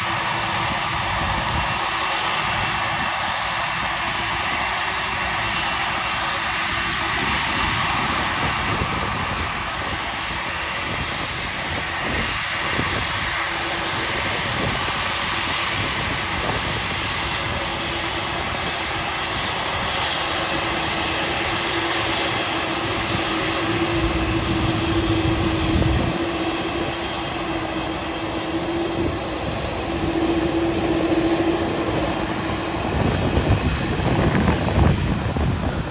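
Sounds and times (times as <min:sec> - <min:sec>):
jet engines whining: 0:00.0 - 0:35.9.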